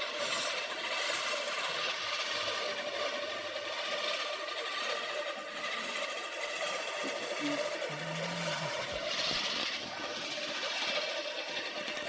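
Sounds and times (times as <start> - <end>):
reel lawn mower cutting grass: 0.0 - 12.0.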